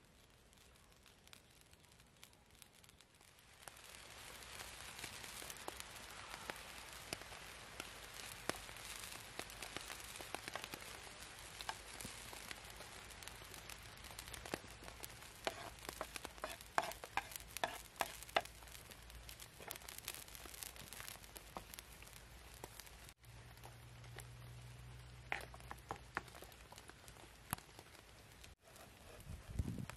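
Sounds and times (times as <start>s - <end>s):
food sizzling in a pan: 0.8s - 27.6s.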